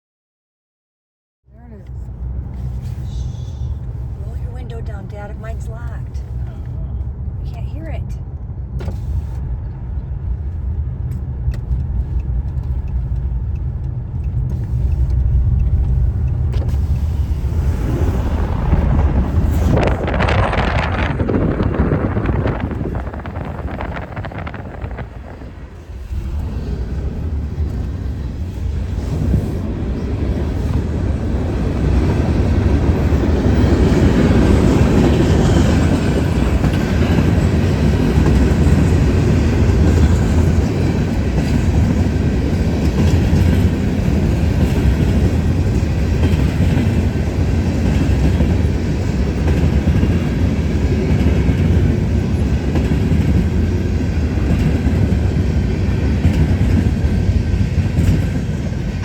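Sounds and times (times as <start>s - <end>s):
freight train rolling on rails: 8.0s - 59.0s.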